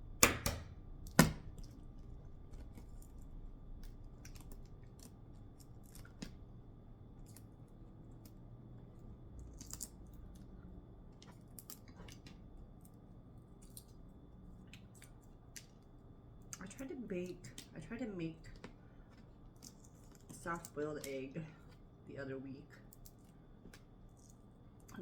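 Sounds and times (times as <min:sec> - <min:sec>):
eggshell cracking and peeling: 0:00.2 - 0:17.8, 0:18.4 - 0:21.2, 0:22.8 - 0:25.0.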